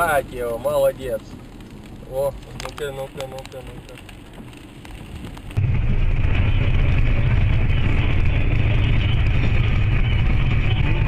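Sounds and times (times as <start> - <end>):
car interior road noise: 0.0 - 11.0.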